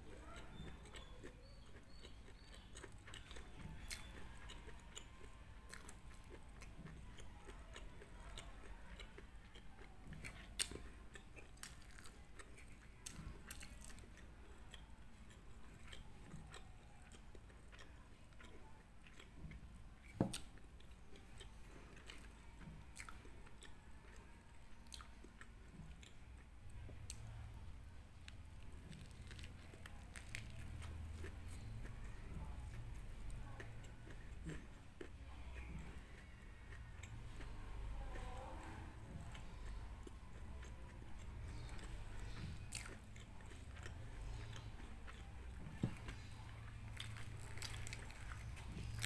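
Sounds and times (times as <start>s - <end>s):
chewing and biting food: 0.0s - 49.0s.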